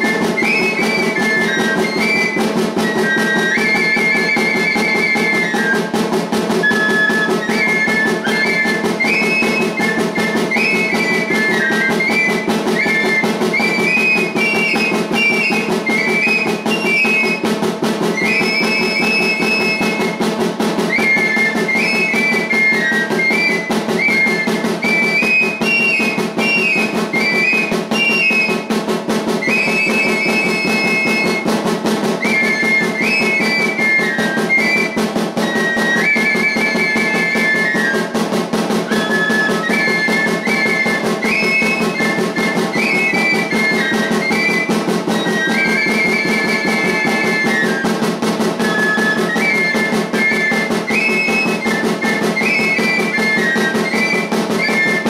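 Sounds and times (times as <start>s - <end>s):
cane flutes playing melody: 0.0s - 55.0s
small hand drum beat: 0.0s - 55.0s.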